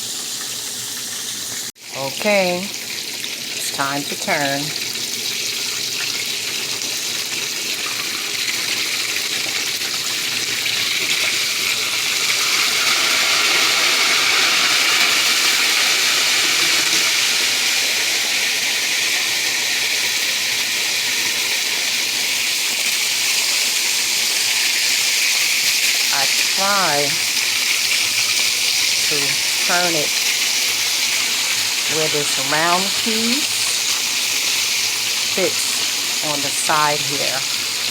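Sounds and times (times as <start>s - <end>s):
pork chops sizzling in a pan: 2.6s - 37.9s.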